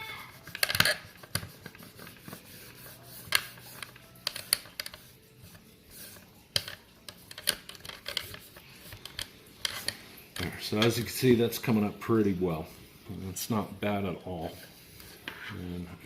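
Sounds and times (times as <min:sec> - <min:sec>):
light scratching of plastic: 0:00.2 - 0:16.0.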